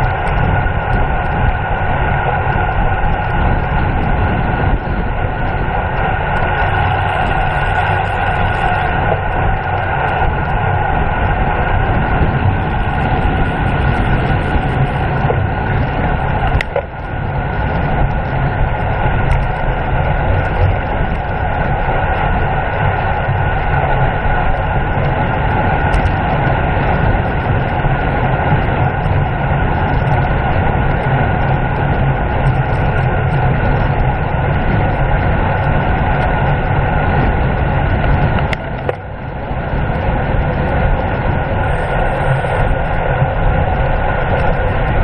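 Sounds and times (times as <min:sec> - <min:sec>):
road noise: 0:00.0 - 0:45.0
steady whine: 0:00.0 - 0:45.0
wind rush on microphone: 0:00.0 - 0:45.0.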